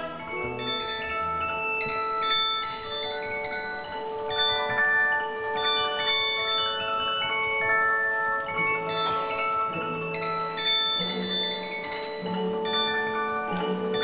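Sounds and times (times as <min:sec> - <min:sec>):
bell-like chiming notes: 0:00.0 - 0:14.0.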